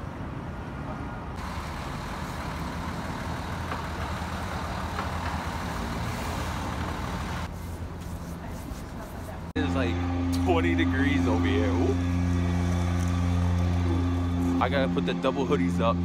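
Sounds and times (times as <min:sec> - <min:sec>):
city street traffic: 0:00.0 - 0:16.0
large vehicle engine humming: 0:01.3 - 0:16.0.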